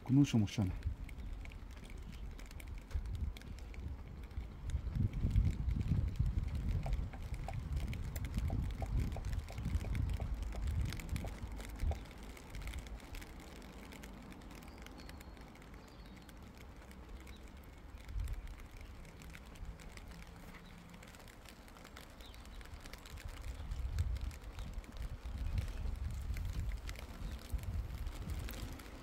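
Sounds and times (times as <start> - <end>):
small clicks: 0.0 - 29.0
wind rumble on microphone: 0.0 - 29.0.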